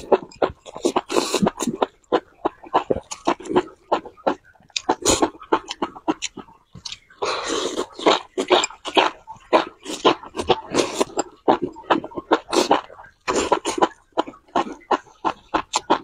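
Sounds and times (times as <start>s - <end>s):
person chewing food: 0.0s - 16.0s
slurping: 0.0s - 16.0s.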